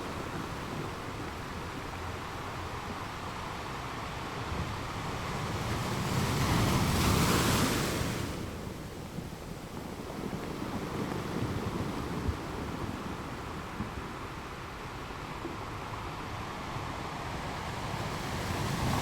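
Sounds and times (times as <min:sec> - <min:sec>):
ocean surf breaking: 0:02.7 - 0:19.0.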